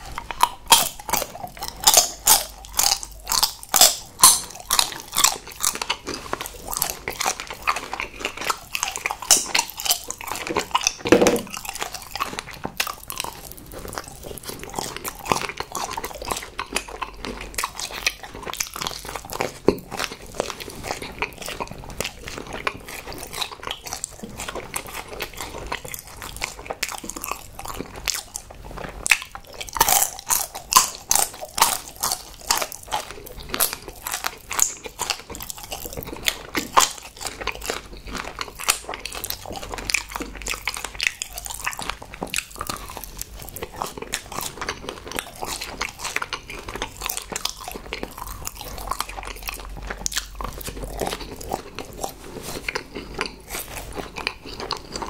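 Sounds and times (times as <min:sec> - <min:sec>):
crisp crackly bites: 0:00.0 - 0:55.0
wet chewing: 0:00.0 - 0:55.0.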